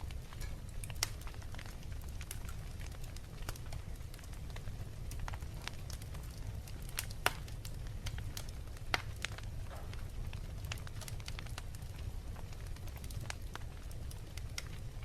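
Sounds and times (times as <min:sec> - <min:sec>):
fire snaps and pops: 0:00.0 - 0:15.0
wood fire crackling: 0:00.0 - 0:15.0.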